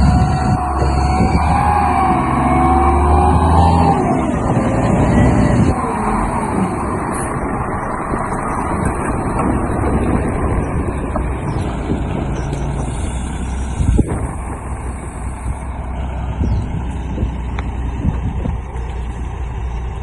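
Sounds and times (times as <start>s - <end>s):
diesel machinery engine running: 0.0s - 20.0s.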